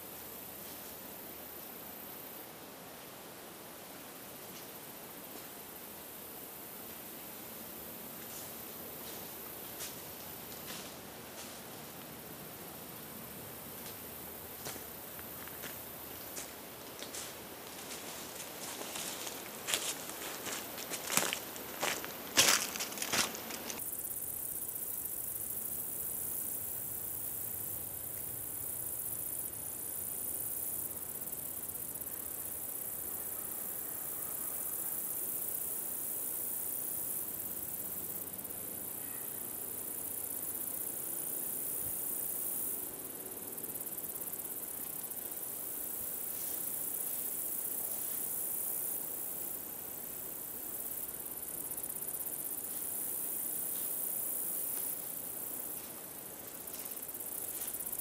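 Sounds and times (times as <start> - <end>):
high-pitched insects buzzing: 4.2 - 58.0.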